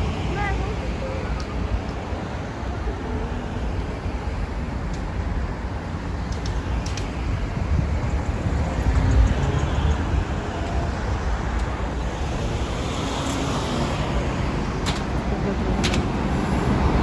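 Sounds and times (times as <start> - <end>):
moving vehicle rumble: 0.0 - 17.0.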